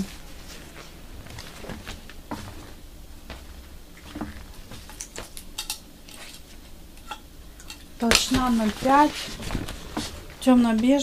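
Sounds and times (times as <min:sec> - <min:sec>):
leather rustling and rubbing: 0:00.0 - 0:06.8, 0:08.0 - 0:11.0.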